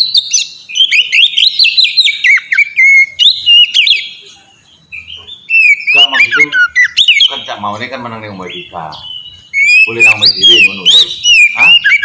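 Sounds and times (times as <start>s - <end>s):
bird singing whistled phrases: 0.0s - 12.0s.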